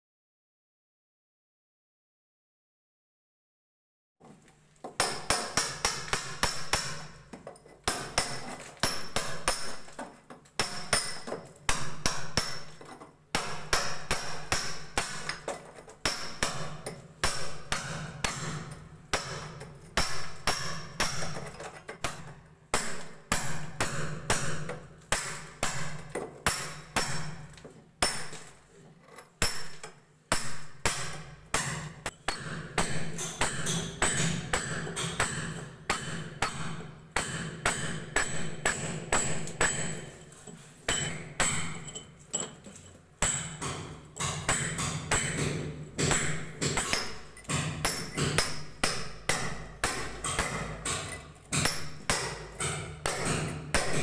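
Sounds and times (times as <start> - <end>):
hammer striking chisel on wall: 4.8 - 54.0.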